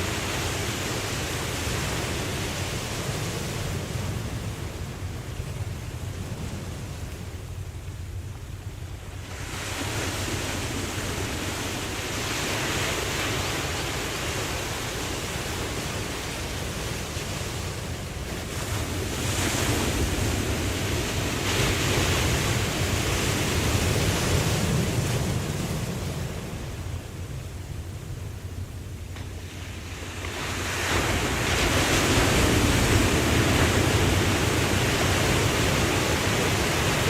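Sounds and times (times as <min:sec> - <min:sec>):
ocean surf breaking: 0:00.0 - 0:07.6, 0:08.2 - 0:37.0
wind rumble on microphone: 0:00.0 - 0:37.0.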